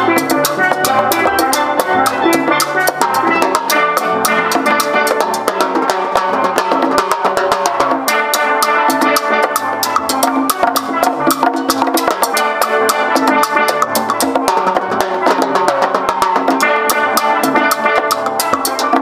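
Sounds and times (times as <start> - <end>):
drum kit beat: 0.0 - 19.0
steel pans playing melody: 0.0 - 19.0.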